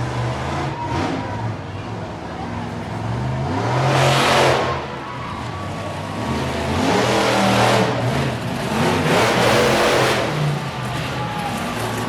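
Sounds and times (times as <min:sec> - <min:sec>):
truck engine revving hard: 0:00.0 - 0:02.1, 0:02.8 - 0:12.0.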